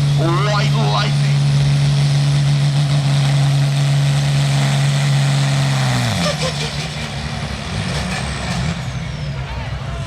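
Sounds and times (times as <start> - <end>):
tractor engine running hard: 0.0 - 10.0.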